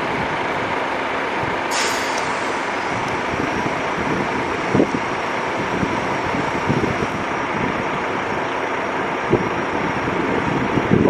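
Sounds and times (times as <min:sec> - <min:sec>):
wind buffeting microphone: 0:01.4 - 0:11.0.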